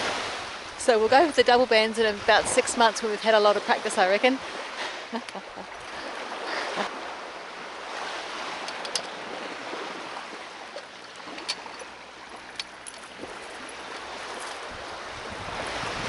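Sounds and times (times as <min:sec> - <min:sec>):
sea water lapping: 0:00.0 - 0:16.0.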